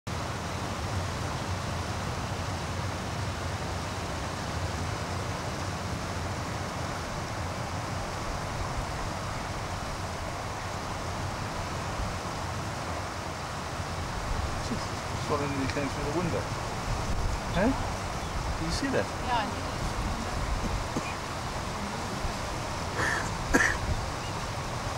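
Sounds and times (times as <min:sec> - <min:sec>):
steady rushing noise: 0:00.1 - 0:24.9.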